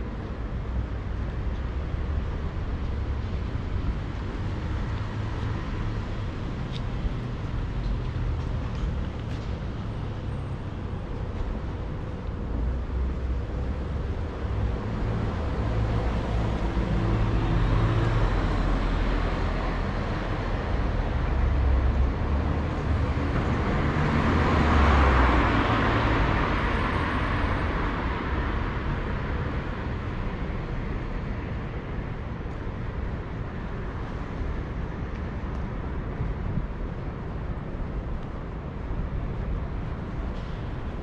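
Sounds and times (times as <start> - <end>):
vehicles passing on a road: 0.0 - 41.0.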